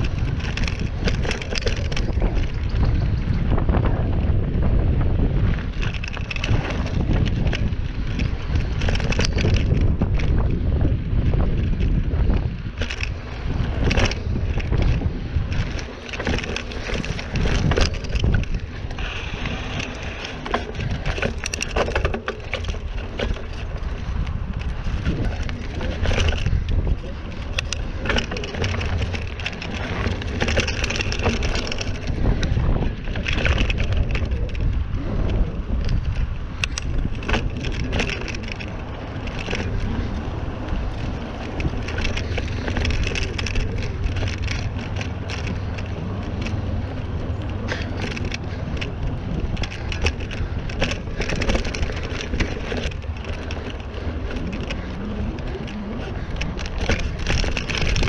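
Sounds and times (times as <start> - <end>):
bike rattling: 0.0 - 58.0
tyres crunching on dirt: 0.0 - 58.0
wind buffeting microphone: 0.0 - 58.0.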